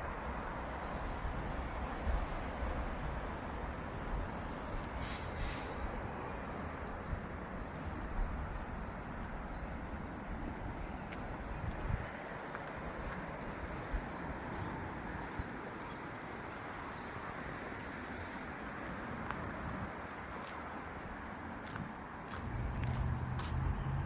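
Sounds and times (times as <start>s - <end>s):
small birds chirping: 2.9s - 24.0s.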